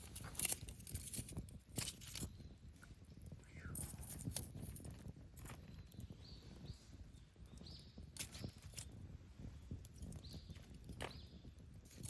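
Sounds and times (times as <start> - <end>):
campfire crackling and popping: 0.0 - 12.0
low rumble of flames: 0.0 - 12.0.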